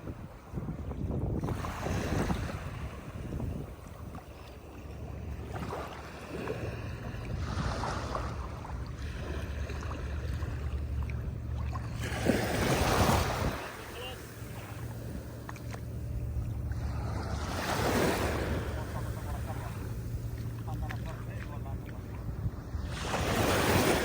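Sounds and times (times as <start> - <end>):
steady low rumble: 0.0 - 24.0
sea waves washing on beach: 1.4 - 24.0.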